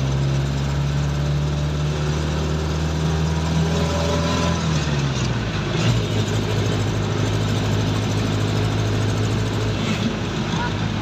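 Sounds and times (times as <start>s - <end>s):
vehicle engine from inside cabin: 0.0s - 11.0s.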